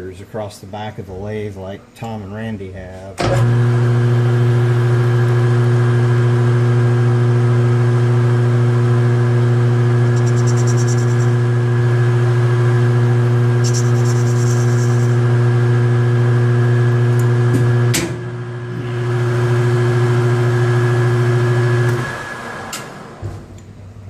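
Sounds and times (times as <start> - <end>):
lathe motor humming: 3.2 - 22.7.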